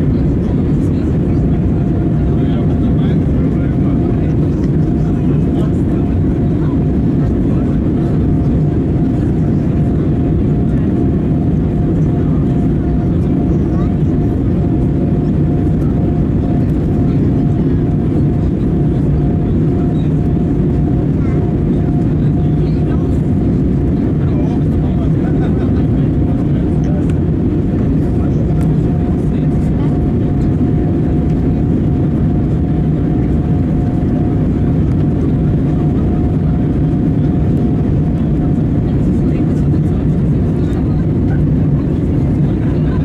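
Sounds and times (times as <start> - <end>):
airplane cabin engine noise: 0.0 - 43.0.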